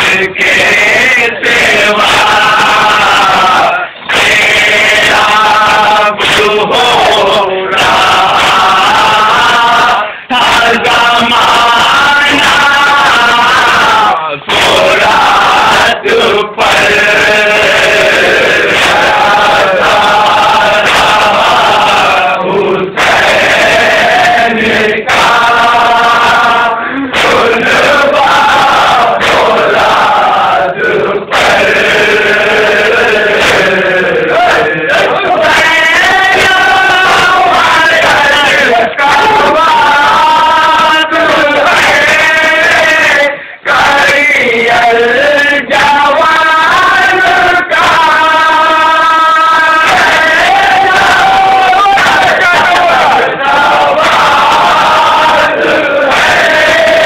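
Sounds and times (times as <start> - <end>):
men chanting in unison: 0.0 - 57.0
men singing along: 0.0 - 57.0.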